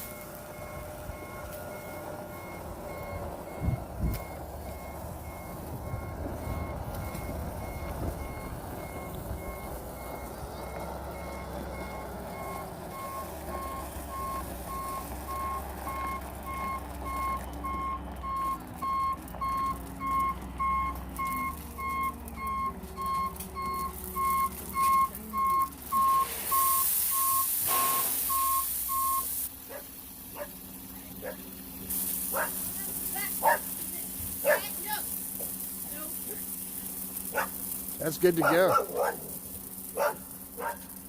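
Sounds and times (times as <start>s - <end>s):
truck backup alarm beeping: 0.0s - 41.0s
truck engine rumble: 0.0s - 41.0s.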